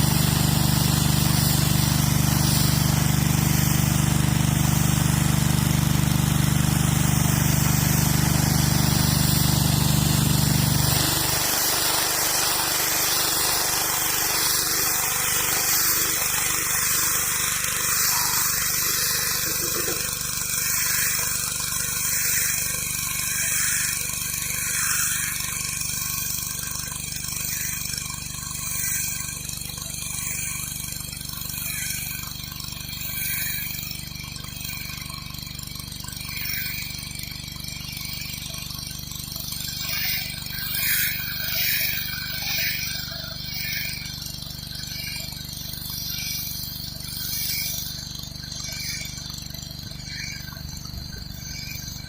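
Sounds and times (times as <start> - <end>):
water spray hissing on concrete: 0.0 - 49.3
pressure washer engine humming: 0.0 - 52.0.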